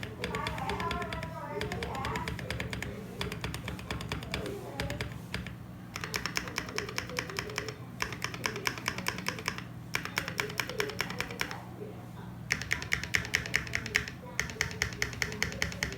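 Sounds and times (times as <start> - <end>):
mechanical keyboard typing: 0.0 - 11.6, 12.5 - 15.9.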